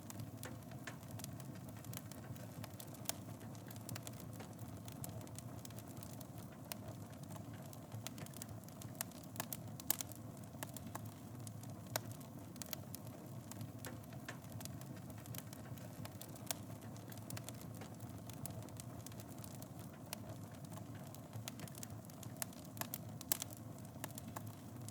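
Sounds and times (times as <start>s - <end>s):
fire crackling and popping: 0.0s - 24.9s
low rumble of fire: 0.0s - 24.9s.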